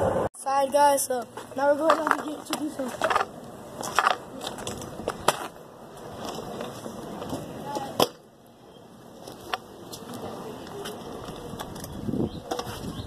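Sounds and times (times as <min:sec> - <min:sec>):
kick scooter rolling over asphalt: 0:00.6 - 0:13.0.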